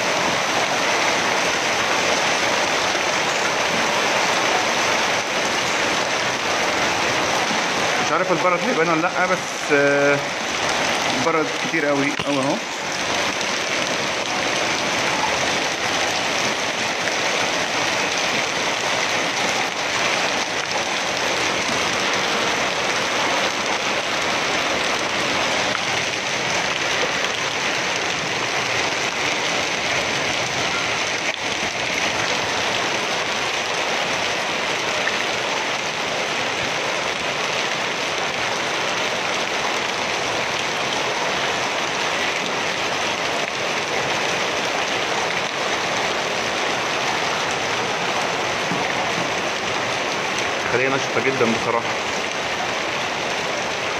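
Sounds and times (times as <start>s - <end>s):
hail and rain pelting pavement: 0.0s - 53.9s.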